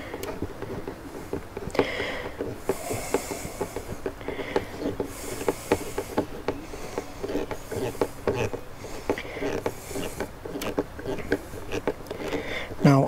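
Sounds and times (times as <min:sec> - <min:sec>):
rubbing and scraping: 0:00.0 - 0:13.0.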